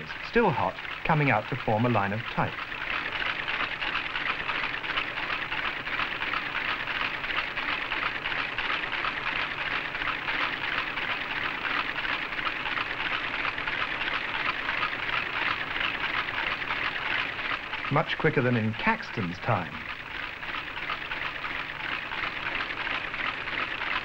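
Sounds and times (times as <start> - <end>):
typecasting machine clattering: 0.0 - 24.0.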